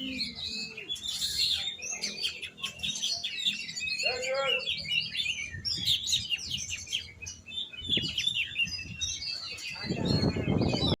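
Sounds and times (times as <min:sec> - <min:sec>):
bird singing chirps and whistles: 0:00.0 - 0:11.0.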